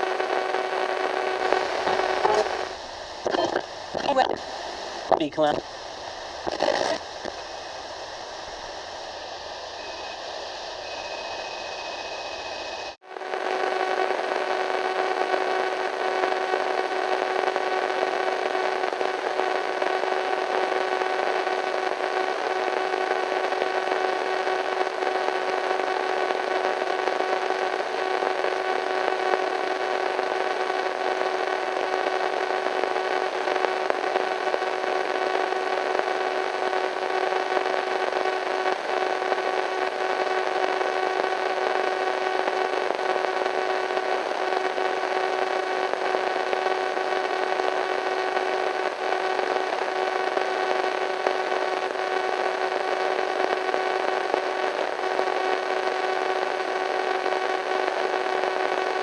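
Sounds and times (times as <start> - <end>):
radio static hiss: 0.0 - 59.0
steady hum: 0.0 - 59.0.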